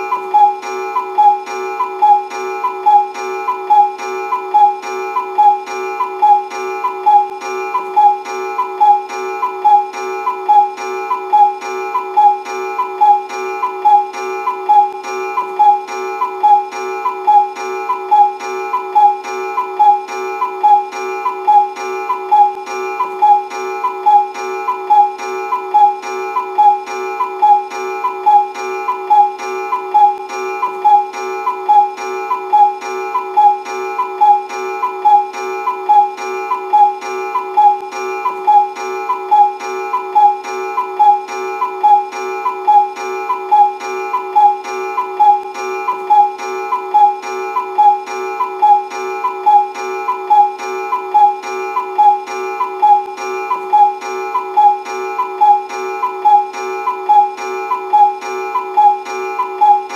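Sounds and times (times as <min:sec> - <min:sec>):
cuckoo clock call: 0:00.0 - 0:59.9
steady held tone: 0:00.0 - 0:59.9.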